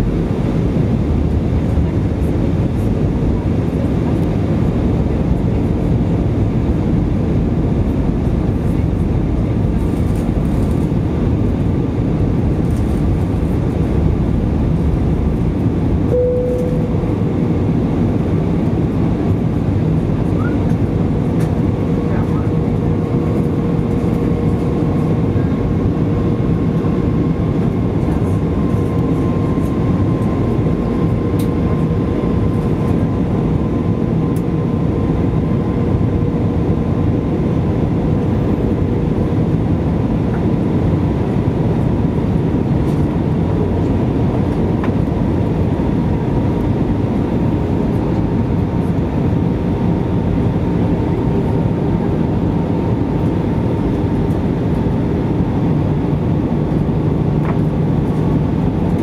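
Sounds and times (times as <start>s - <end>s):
engine and airflow rumble: 0.0s - 59.0s
high engine whine: 0.0s - 59.0s.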